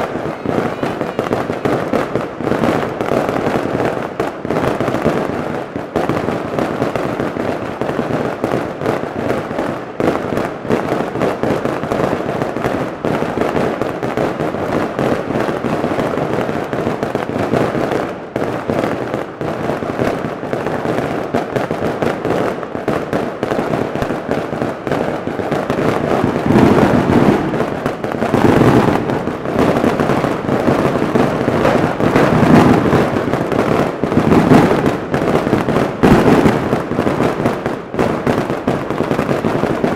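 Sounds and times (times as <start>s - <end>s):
firecrackers crackling: 0.0s - 39.9s
small aerial firework bursts: 0.0s - 39.9s.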